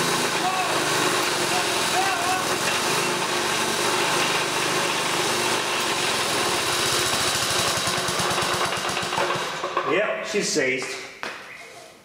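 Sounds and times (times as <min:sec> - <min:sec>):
compressor crunching: 0:00.0 - 0:09.9
single-cylinder engine running: 0:00.0 - 0:09.9.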